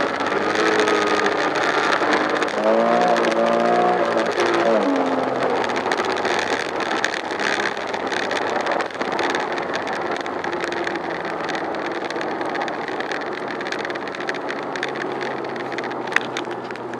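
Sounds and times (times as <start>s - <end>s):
faint car engine: 0.0s - 16.9s
road and wind noise in car: 0.0s - 16.9s.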